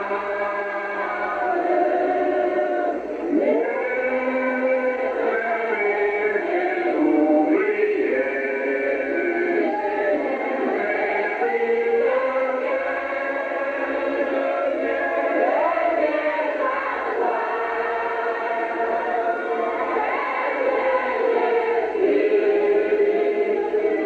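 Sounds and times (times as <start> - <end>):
group singing a hymn unaccompanied: 0.0 - 24.0.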